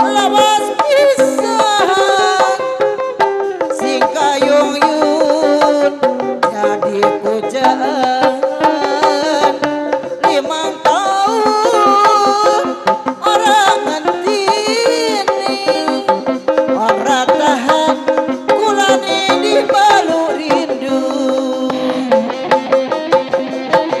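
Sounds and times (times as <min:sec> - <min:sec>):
hand-beaten drums: 0:00.0 - 0:24.0.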